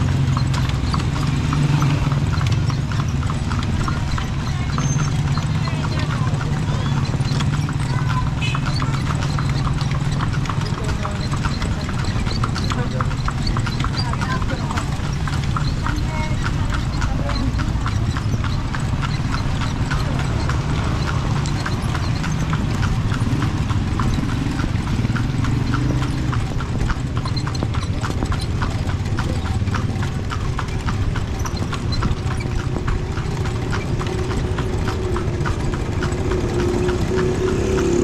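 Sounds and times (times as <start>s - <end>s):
horse hooves clip-clopping on street: 0.0s - 38.0s.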